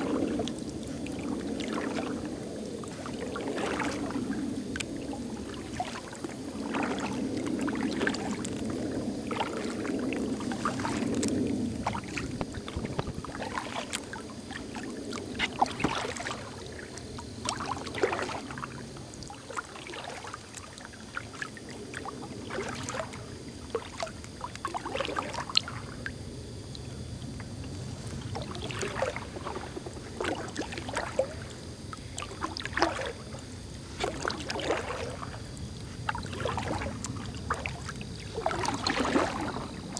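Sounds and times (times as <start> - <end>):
paddle splashing in water: 0.0 - 26.0, 27.4 - 39.9
low rush of water: 0.0 - 39.9.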